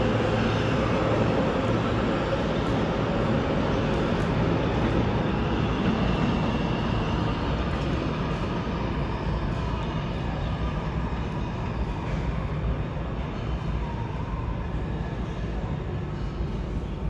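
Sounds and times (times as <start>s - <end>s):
subway train rail rumble: 0.0s - 17.0s.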